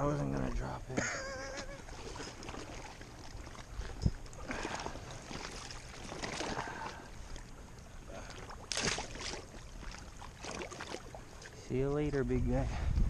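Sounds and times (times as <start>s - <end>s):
wind and water noise: 0.0s - 13.0s.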